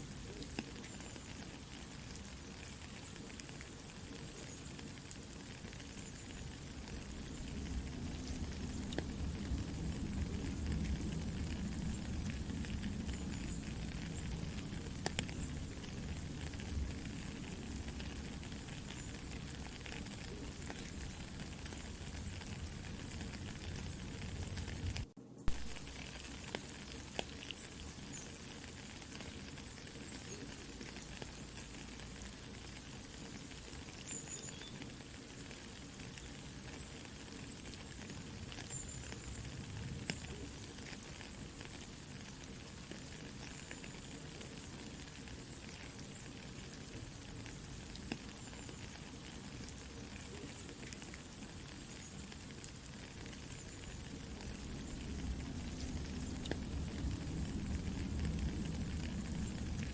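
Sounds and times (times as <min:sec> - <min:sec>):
soft steady rain: 0:00.0 - 0:59.9
campfire crackling and popping: 0:00.1 - 0:59.9.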